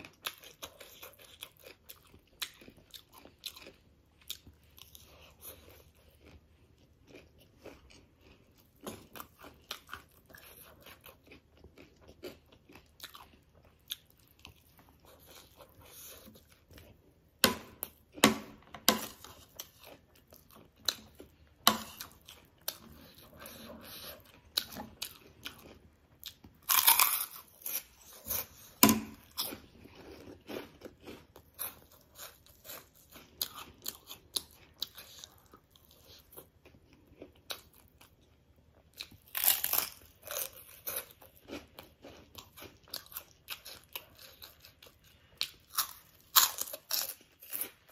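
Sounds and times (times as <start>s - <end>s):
crunching and chewing snack: 0.0s - 47.9s.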